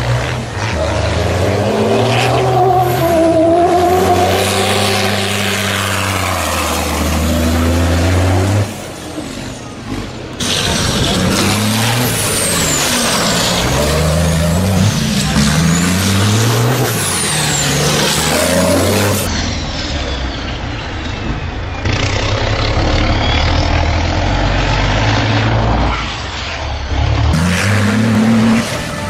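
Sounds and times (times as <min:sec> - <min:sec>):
race truck engines revving: 0:00.0 - 0:29.0.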